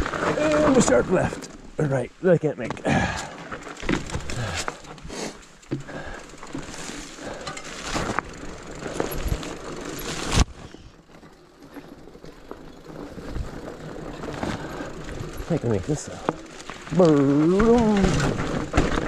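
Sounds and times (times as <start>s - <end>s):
bike tyres crunching on rocks: 0.0s - 19.0s
bike rattling and knocking: 2.6s - 19.0s.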